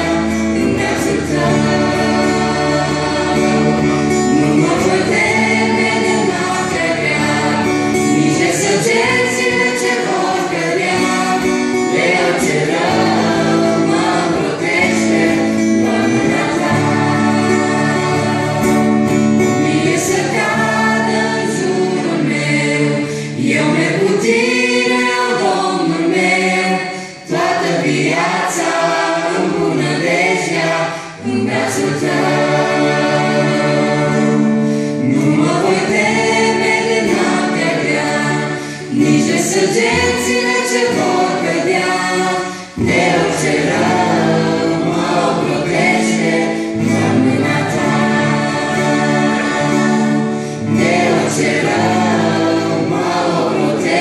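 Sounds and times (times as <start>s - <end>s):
acoustic guitar: 0.0s - 54.0s
mixed choir singing worship song: 0.0s - 54.0s.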